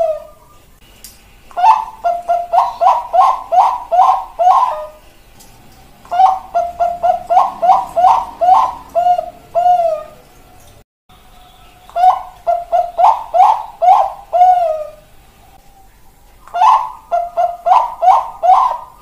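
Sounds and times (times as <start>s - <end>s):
dove cooing: 0.0s - 0.7s, 1.5s - 10.8s, 11.4s - 19.0s.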